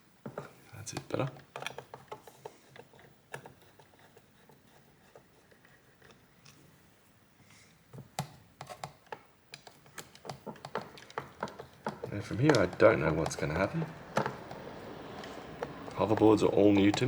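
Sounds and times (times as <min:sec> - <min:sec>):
plastic parts clicking and tapping: 0:00.2 - 0:06.6, 0:07.9 - 0:17.0.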